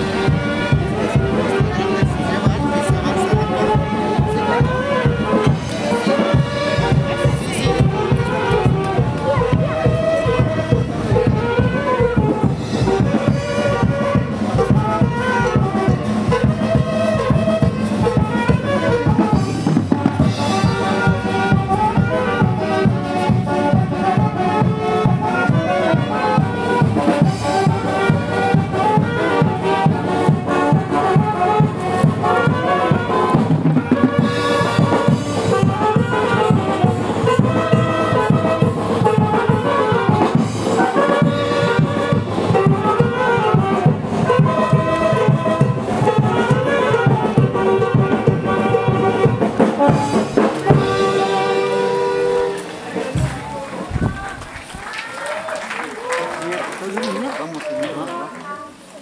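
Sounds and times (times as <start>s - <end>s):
brass band music: 0.0s - 58.9s.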